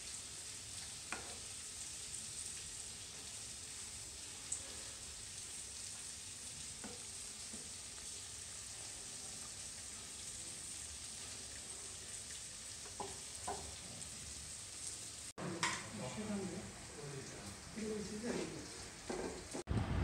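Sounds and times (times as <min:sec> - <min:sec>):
food frying in hot oil: 0:00.0 - 0:20.0.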